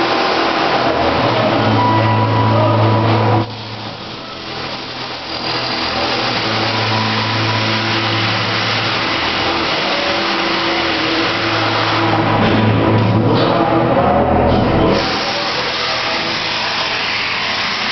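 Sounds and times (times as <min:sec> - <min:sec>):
welding arc hissing: 0:00.0 - 0:12.4, 0:14.9 - 0:17.9.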